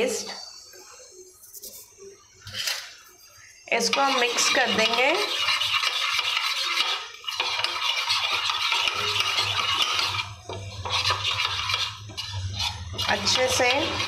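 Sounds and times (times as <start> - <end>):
spoon scraping a bowl: 1.4 - 14.0.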